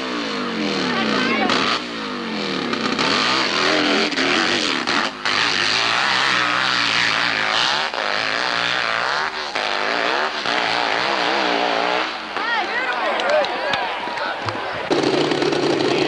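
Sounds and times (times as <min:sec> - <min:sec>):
motorcycle engine revving hard: 0:00.0 - 0:12.9, 0:14.8 - 0:16.0.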